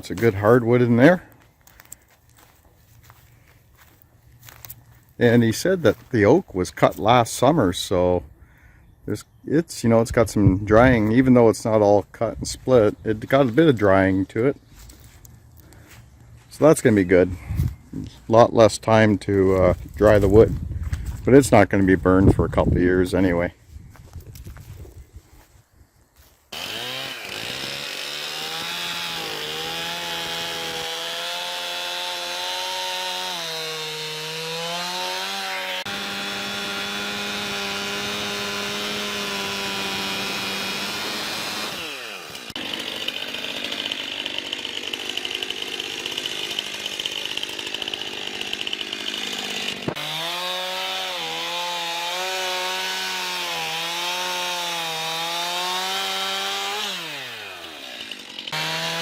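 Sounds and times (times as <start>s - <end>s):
chainsaw cutting logs: 0.0s - 7.2s, 12.4s - 21.8s, 26.2s - 59.0s.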